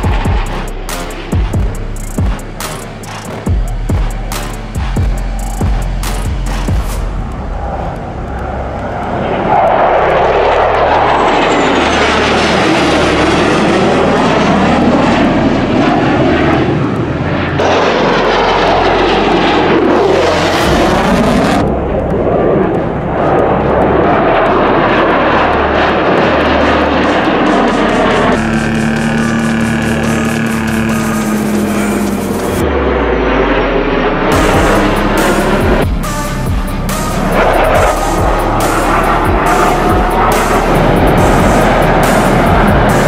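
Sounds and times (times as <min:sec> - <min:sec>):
fighter jets roaring past: 0:00.0 - 0:43.0
steady musical tones: 0:00.0 - 0:43.0.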